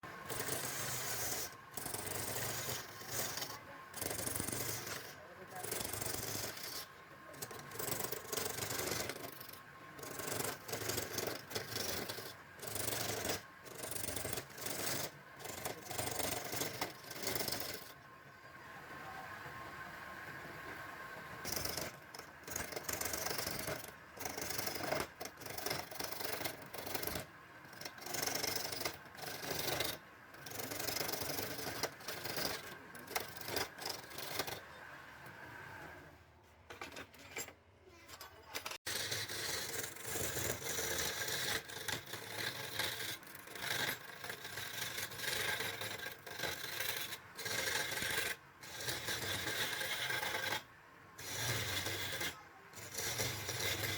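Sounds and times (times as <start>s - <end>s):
turning tool scraping wood: 0.1s - 18.0s, 20.3s - 53.9s
wood lathe running: 0.1s - 36.1s, 38.9s - 53.9s.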